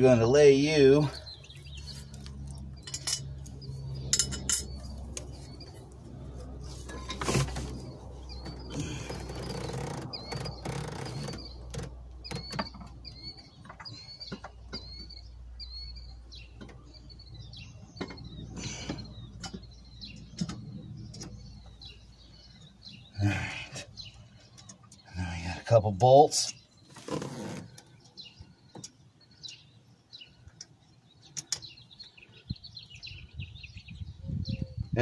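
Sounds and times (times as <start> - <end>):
small bird chirping: 1.0 - 6.0, 7.8 - 25.6, 26.4 - 35.0.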